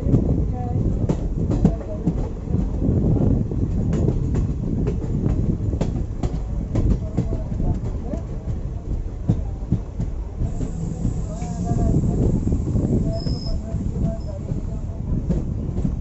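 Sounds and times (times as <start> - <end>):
train rumbling on track: 0.0 - 16.0
wheels clicking over rail joints: 0.0 - 16.0.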